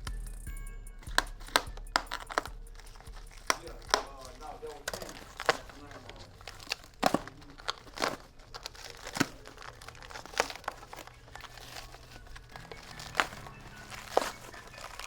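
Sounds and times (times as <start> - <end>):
packaging crinkling and tearing: 1.1 - 15.0.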